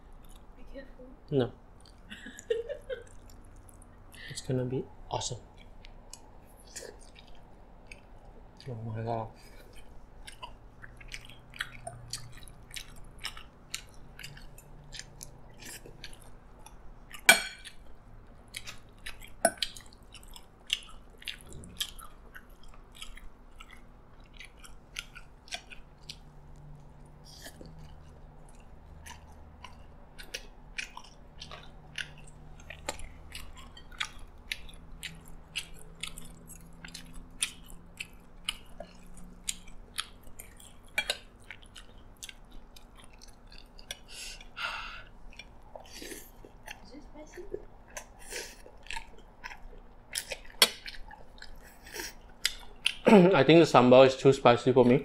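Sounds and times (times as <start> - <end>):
person chewing with wet clicks: 0.0 - 55.0.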